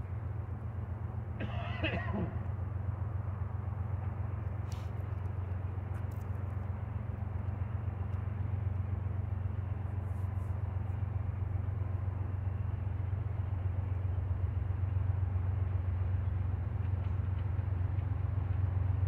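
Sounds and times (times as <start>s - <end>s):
distant diesel locomotive rumble: 0.0s - 19.0s.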